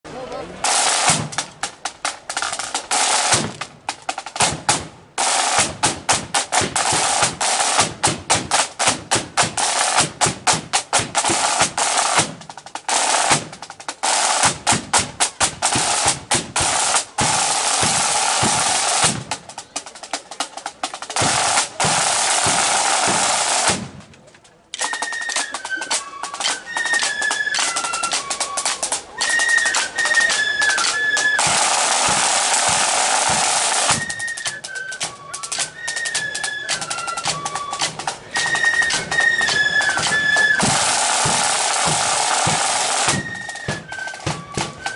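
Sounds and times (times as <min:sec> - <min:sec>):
marching side drums: 0:00.6 - 0:44.9.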